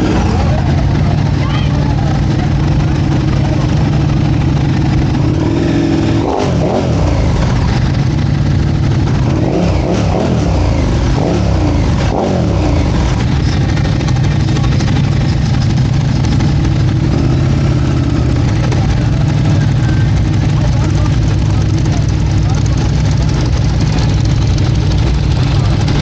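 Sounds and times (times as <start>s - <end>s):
motorcycle engines idling: 0.0s - 26.0s
throttle revving: 0.0s - 26.0s.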